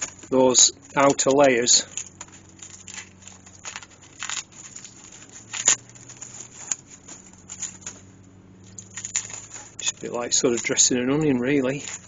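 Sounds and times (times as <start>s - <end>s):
garlic skins crackling and rustling: 0.0s - 12.0s.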